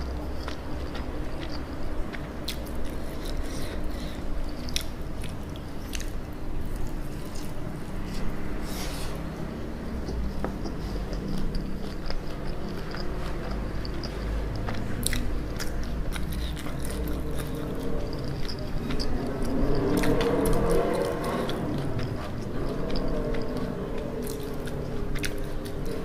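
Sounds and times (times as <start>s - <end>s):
chewing fried chicken: 0.0s - 26.0s.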